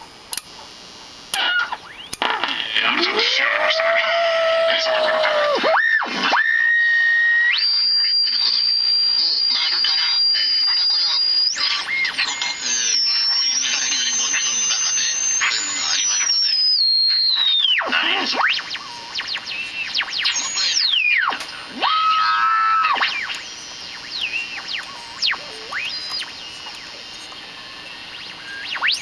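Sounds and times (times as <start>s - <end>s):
radio squealing and whistling: 1.4s - 29.0s.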